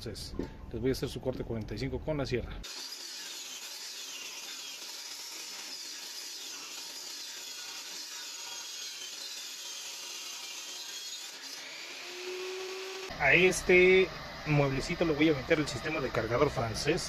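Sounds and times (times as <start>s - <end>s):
table saw cutting wood: 2.6s - 17.0s.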